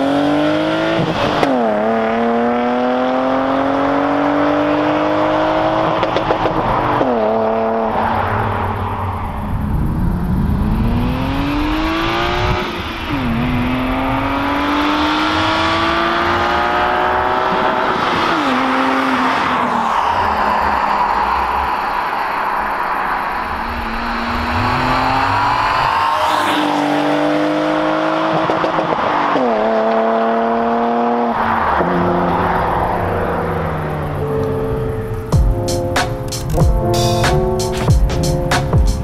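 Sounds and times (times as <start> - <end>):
car engine accelerating through gears: 0.0 - 39.0.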